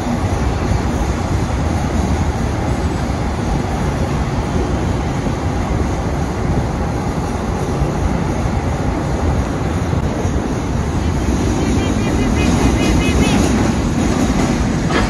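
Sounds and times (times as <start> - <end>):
train rumble and rail noise: 0.0 - 15.0.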